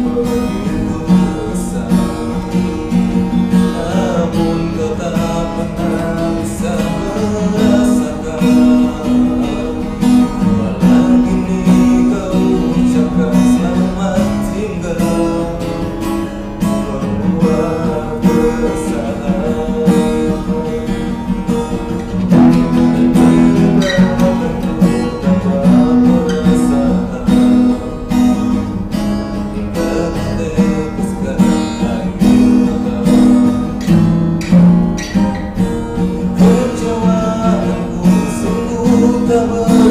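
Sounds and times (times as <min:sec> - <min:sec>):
man singing: 0:00.0 - 0:39.9
strummed acoustic guitar: 0:00.0 - 0:39.9.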